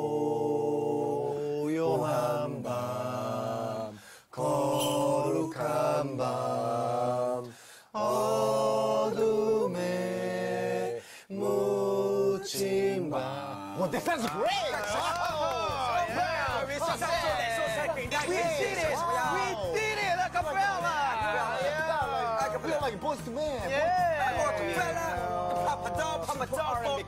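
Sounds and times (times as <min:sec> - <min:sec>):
male voices singing in harmony: 0:00.0 - 0:19.7, 0:23.8 - 0:27.0.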